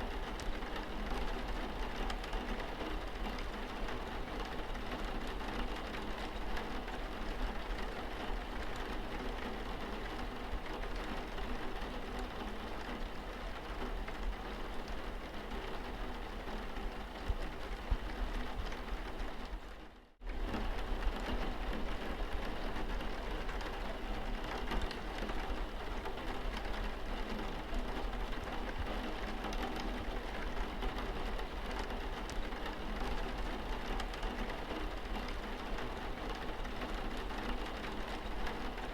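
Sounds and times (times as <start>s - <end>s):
rain on car windscreen: 0.0s - 38.9s.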